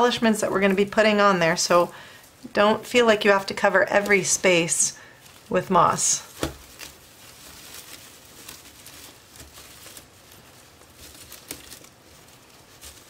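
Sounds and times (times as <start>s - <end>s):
dry moss crackling under fingers: 0.0s - 13.0s.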